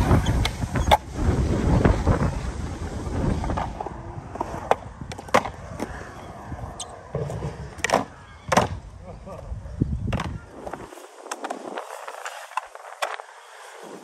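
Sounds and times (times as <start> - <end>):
skateboard wheels rumbling: 0.0 - 14.0.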